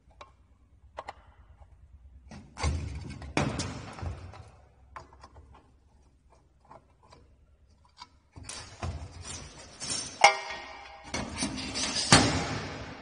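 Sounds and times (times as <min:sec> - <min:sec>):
metal scraping and knocking: 0:02.3 - 0:12.9.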